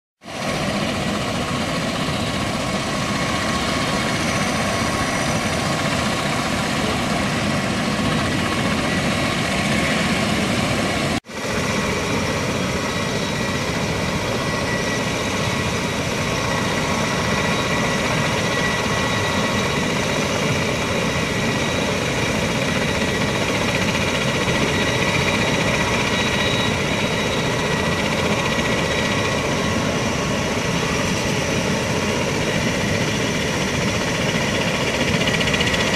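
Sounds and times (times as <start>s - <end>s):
aircraft engines and rotors running: 0.2s - 35.9s
high-pitched engine whine: 0.3s - 35.9s.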